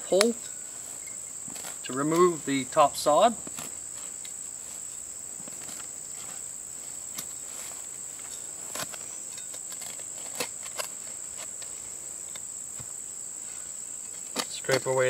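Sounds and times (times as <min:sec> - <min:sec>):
high-pitched insect drone: 0:00.0 - 0:15.0
spade crunching into soil: 0:00.1 - 0:15.0.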